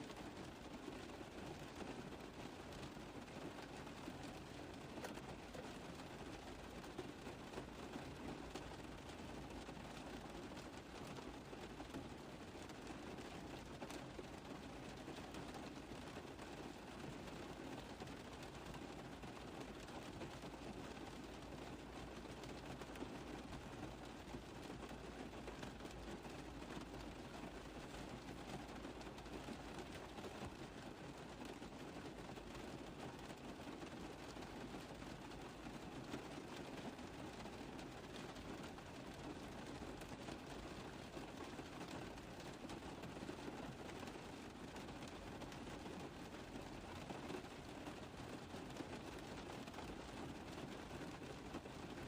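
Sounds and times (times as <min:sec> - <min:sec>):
rain on a car roof: 0:00.0 - 0:52.0.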